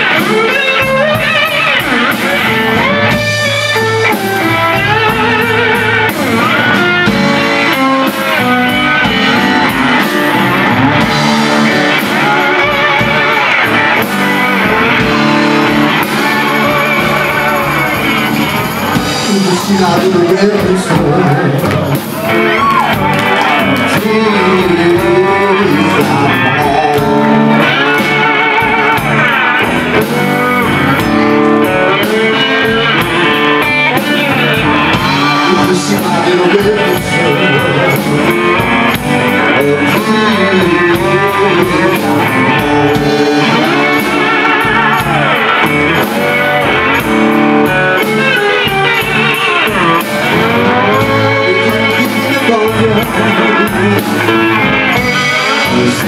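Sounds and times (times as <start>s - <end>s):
live blues band playing: 0.0s - 56.0s
slide guitar notes: 0.0s - 56.0s.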